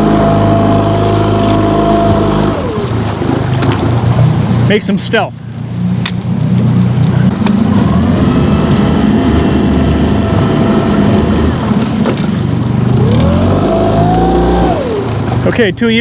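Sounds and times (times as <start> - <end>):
outboard boat motor running: 0.0 - 16.0.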